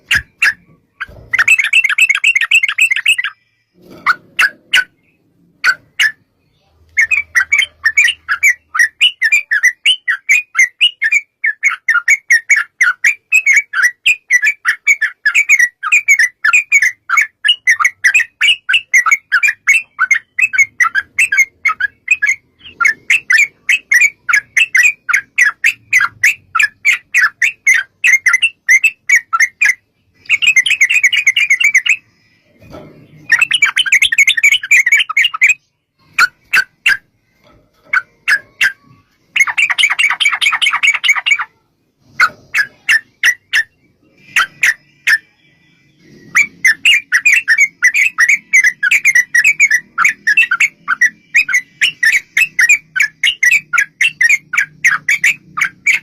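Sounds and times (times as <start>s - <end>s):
bulbul chattering song: 0.0s - 56.0s.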